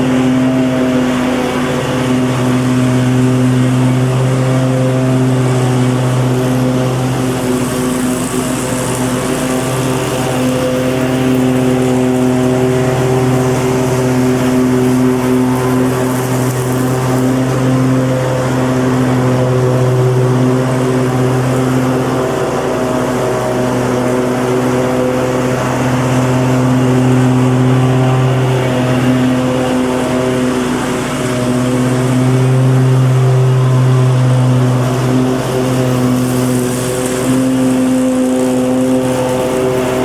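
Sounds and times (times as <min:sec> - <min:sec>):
lawnmower engine running: 0:00.0 - 0:40.0.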